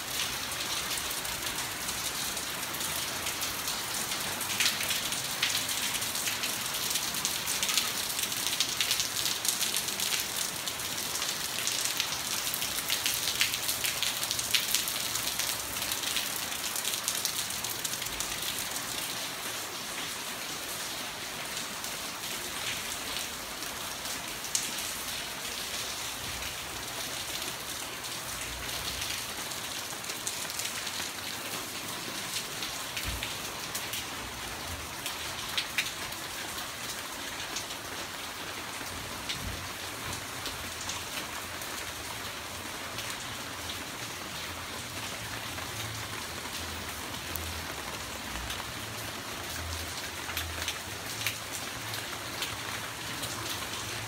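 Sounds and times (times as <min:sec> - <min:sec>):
rain on paving and foliage: 0:00.0 - 0:54.0.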